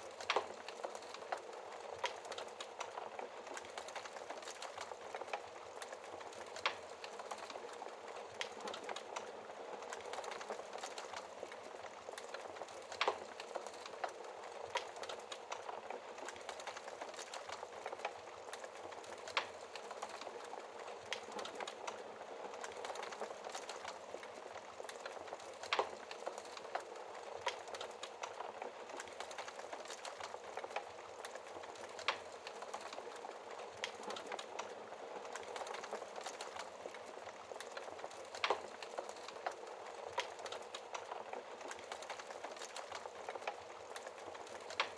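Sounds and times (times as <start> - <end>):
fire popping: 0.0 - 44.9
wood fire crackling: 0.0 - 44.9.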